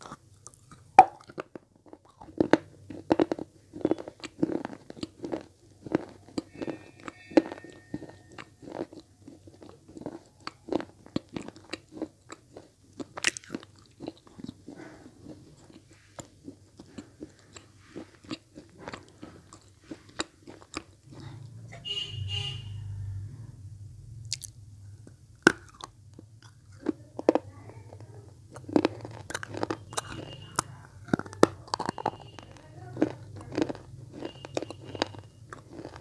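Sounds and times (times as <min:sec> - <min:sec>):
chewing with dry crunches: 0:00.0 - 0:22.0, 0:24.2 - 0:36.0.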